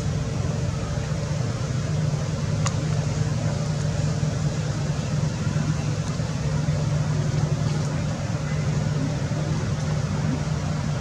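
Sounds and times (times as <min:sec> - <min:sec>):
constant hiss: 0:00.0 - 0:11.0
steady low hum: 0:00.0 - 0:11.0.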